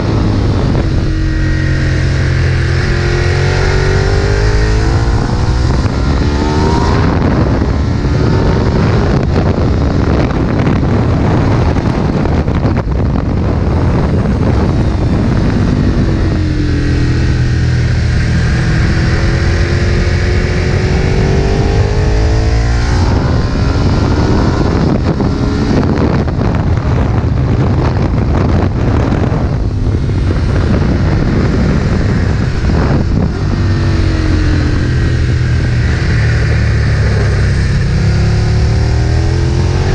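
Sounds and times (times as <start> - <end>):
heavy wind rush: 0.0 - 39.9
motorcycle engine revving: 0.0 - 39.9.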